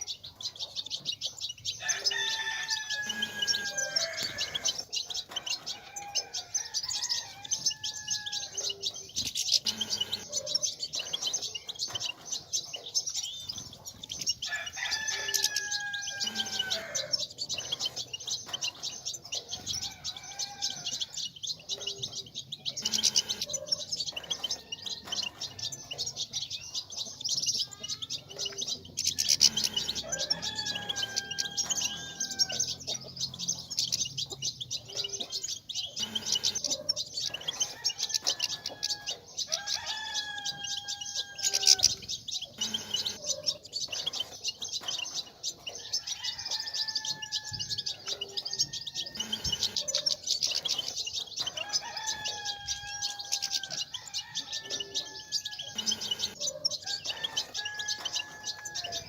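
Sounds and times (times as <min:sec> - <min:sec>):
goldfinches twittering: 0:00.0 - 0:59.0.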